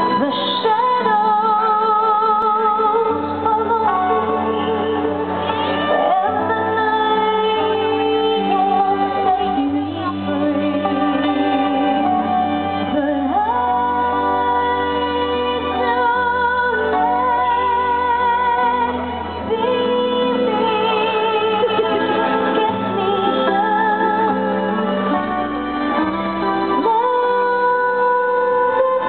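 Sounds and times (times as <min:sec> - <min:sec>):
live band playing: 0:00.0 - 0:29.0
woman singing slow song: 0:00.0 - 0:29.0.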